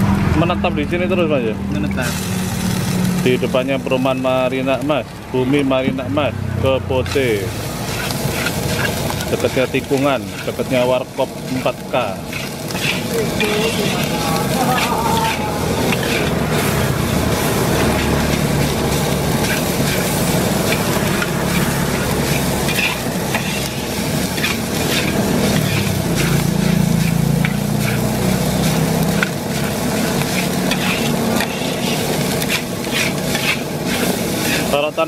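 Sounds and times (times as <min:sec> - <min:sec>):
rice sizzling in a wok: 0:01.7 - 0:35.0
metal spatula scraping a wok: 0:06.9 - 0:35.0.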